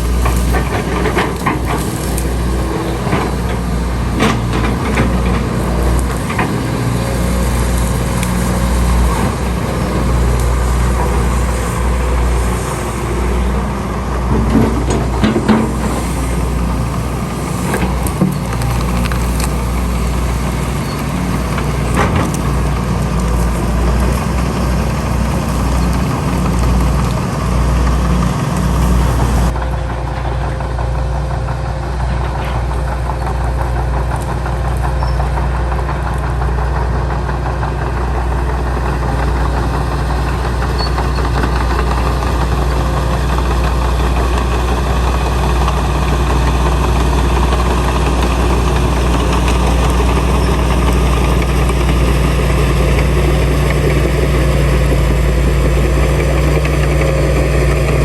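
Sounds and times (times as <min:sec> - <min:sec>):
heavy machinery diesel engine running: 0:00.0 - 0:58.0.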